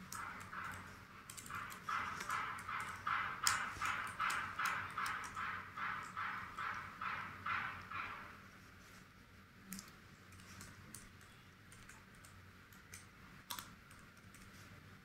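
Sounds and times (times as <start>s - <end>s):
computer keys typing: 0.0s - 7.7s, 9.7s - 14.6s.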